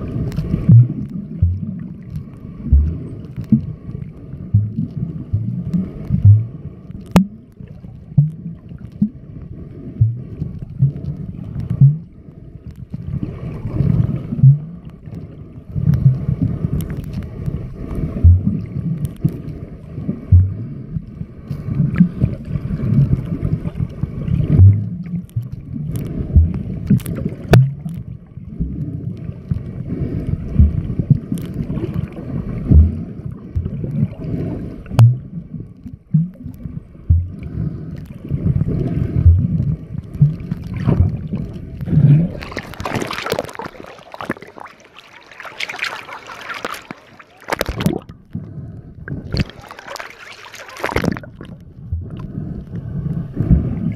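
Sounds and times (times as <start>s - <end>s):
low underwater rumbling: 0.0s - 53.9s
water gurgling and splashing: 0.0s - 53.9s.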